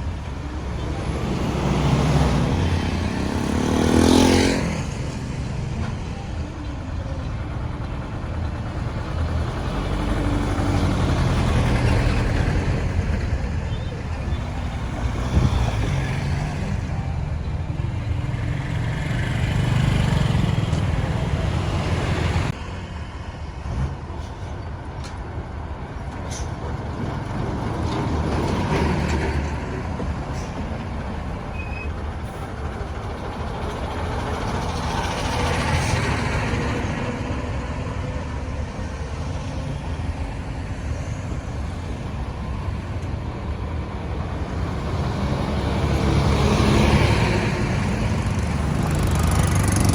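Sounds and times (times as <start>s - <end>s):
passing vehicle engines: 0.0s - 49.9s.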